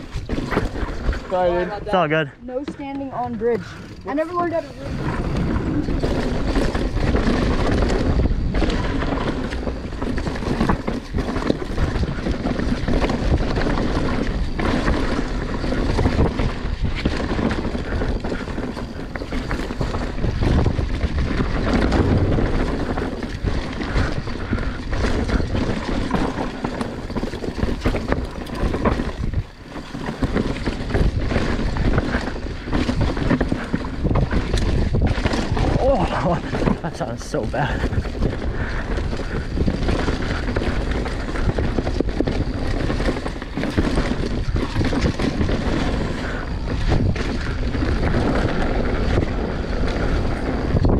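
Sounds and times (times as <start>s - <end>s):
bike knocks and rattles: 0.0s - 1.9s, 2.5s - 50.9s
tyre noise on trail: 0.0s - 50.9s
wind rushing over microphone: 0.0s - 50.9s.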